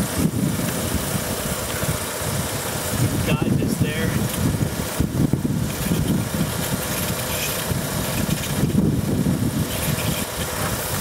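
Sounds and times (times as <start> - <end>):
hiss of vacuum leak: 0.0 - 11.0.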